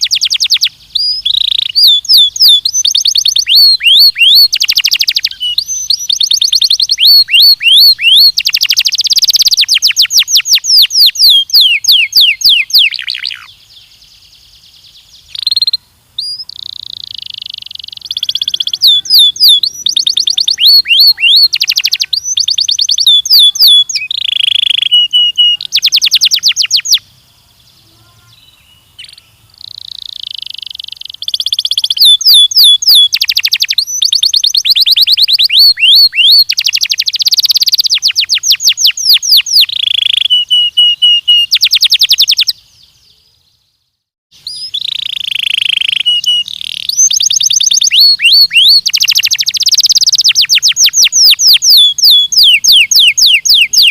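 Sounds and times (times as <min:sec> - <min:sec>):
canary singing trills: 0:00.0 - 0:43.8, 0:44.4 - 0:53.9.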